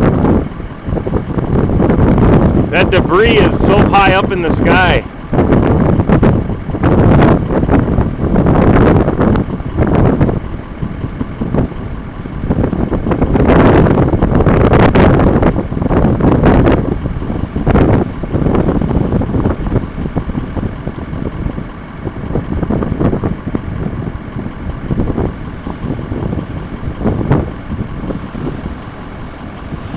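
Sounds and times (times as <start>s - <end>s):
moving vehicle rushing noise: 0.0s - 29.9s.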